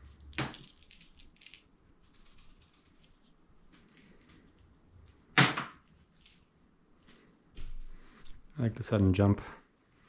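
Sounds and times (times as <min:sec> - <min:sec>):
faint clicks and rustles: 0:00.0 - 0:08.6.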